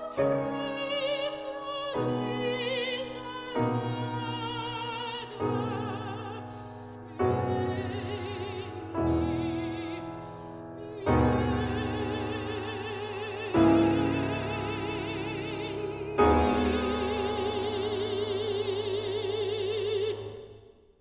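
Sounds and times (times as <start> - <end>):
piano chords: 0.0 - 20.4
soprano singing with vibrato: 0.0 - 20.7.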